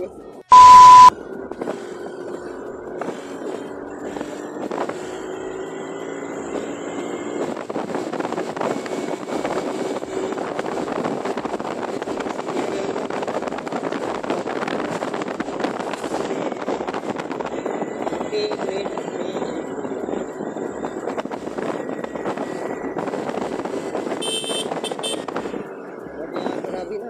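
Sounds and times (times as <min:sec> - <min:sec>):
scooter engine running: 0:01.3 - 0:26.2
wind rushing over microphone: 0:02.9 - 0:27.0.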